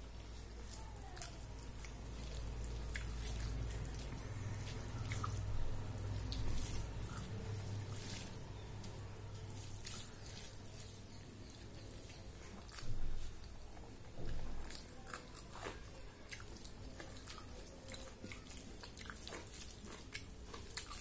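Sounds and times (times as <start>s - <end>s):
low steady hum: 0.0s - 21.0s
wet squelches of hand mixing rice: 0.0s - 21.0s.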